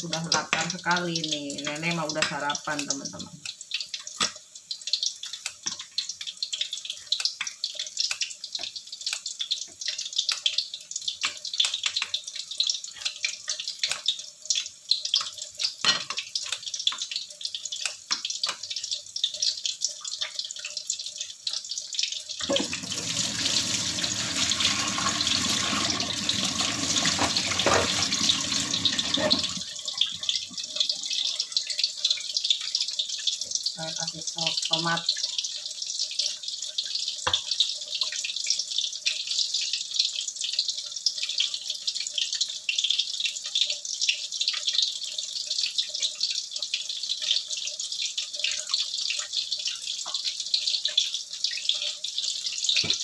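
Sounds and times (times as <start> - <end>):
fritters sizzling in hot oil: 0.0 - 53.0.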